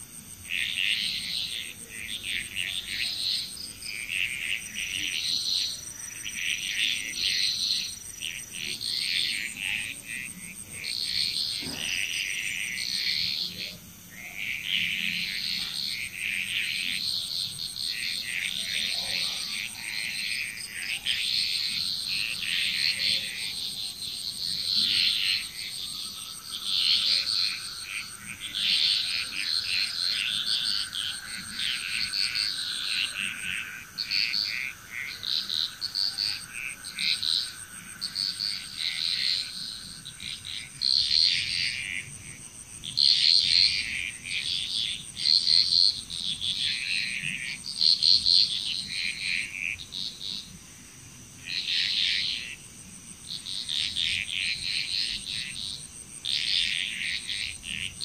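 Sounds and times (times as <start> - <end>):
frogs calling: 0.0 - 58.0.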